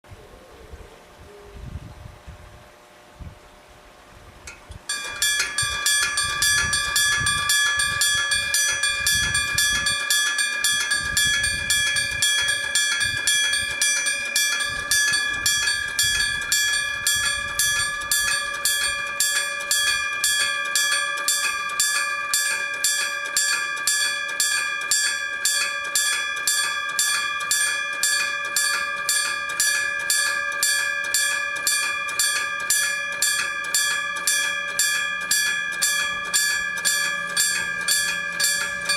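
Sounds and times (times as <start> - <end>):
level crossing bell ringing: 4.9 - 38.9.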